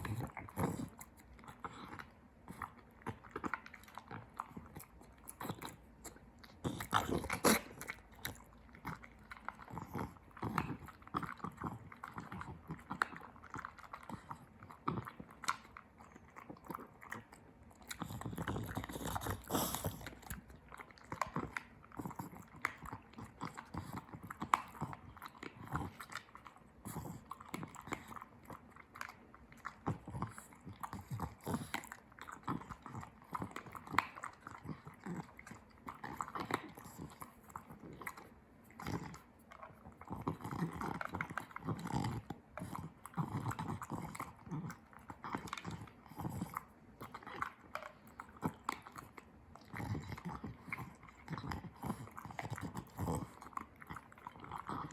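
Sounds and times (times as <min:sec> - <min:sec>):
puppy chewing crunchy food: 0:00.0 - 0:54.9.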